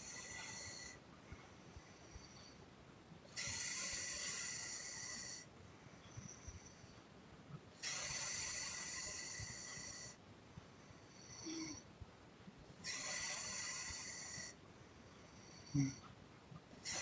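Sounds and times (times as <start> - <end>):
faint breath in: 0.0 - 2.7, 3.4 - 7.1, 7.8 - 11.9, 12.8 - 16.1.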